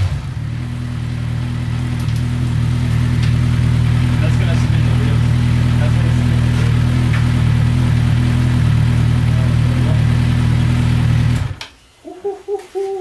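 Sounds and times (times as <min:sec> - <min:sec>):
small engine idling: 0:00.0 - 0:11.6.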